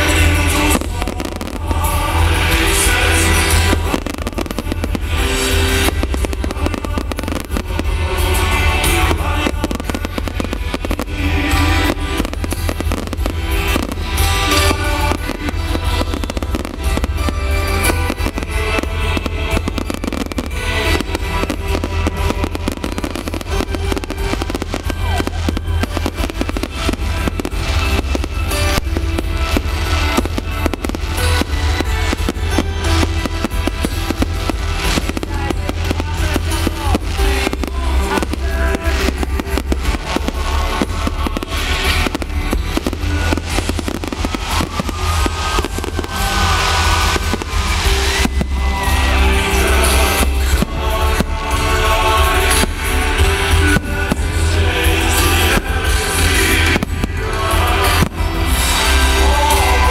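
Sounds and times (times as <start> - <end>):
fireworks bangs and crackles: 0.0 - 59.9
loud music: 0.0 - 59.9.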